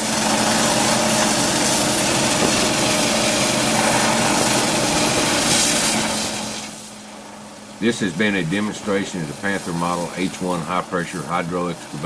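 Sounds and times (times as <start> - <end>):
high-pressure water jet hissing: 0.0 - 7.0, 7.8 - 12.0
engine and pump humming: 0.0 - 12.0.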